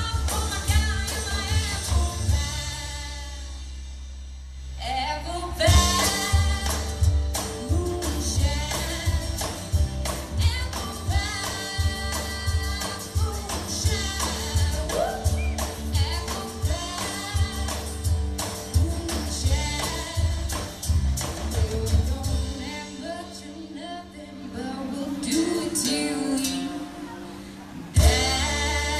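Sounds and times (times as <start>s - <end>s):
folk-blues band playing: 0.0s - 28.9s
person singing: 4.9s - 28.9s.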